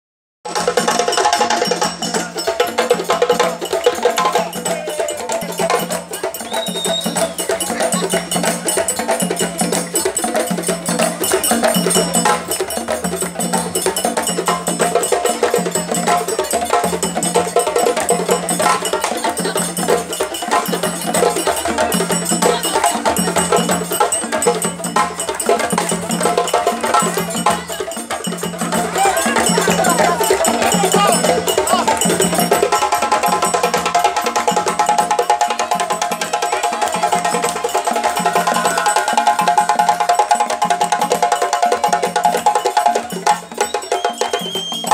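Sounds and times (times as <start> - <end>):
hand drums playing fast rhythm: 0.4 - 44.9.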